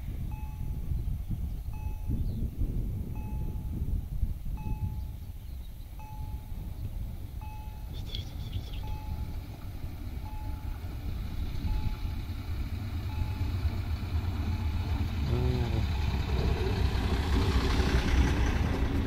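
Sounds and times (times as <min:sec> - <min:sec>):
diesel railcar rumble: 0:00.0 - 0:19.0.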